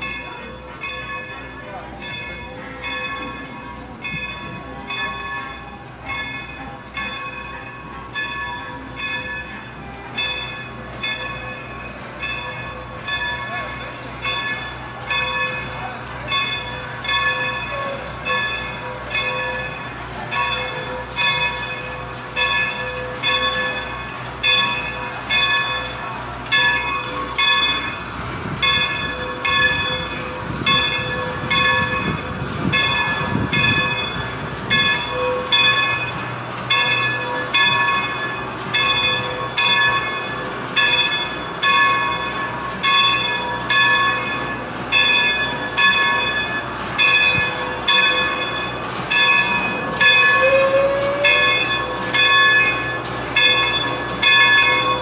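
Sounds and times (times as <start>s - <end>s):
locomotive rumble: 0.0s - 55.0s
steam locomotive bell ringing: 0.0s - 55.0s.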